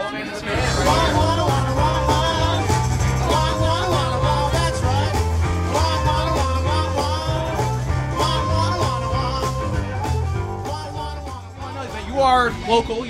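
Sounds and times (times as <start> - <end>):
person singing: 0.0 - 13.0
electric guitar: 0.3 - 12.8
drum beat: 0.5 - 13.0
harmonica: 0.5 - 13.0.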